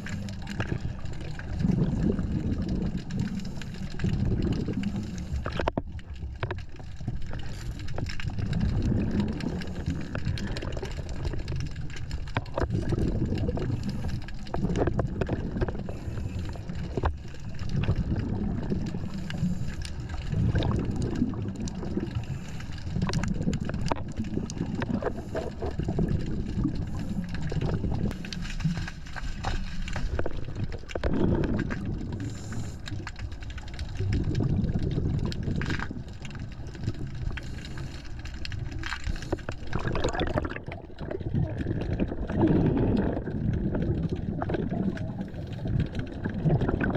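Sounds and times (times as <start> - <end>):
underwater regulator bubbles rumbling: 0.0 - 46.9.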